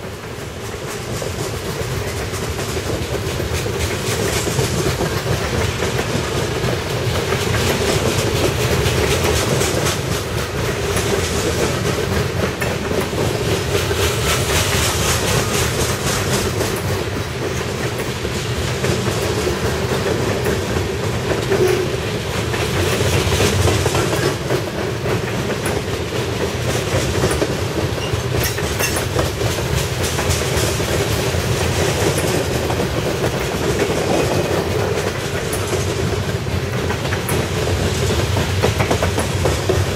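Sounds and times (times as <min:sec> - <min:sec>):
train wheels rumbling on rail: 0:00.0 - 0:39.9
wheels clicking on rail: 0:00.0 - 0:39.9.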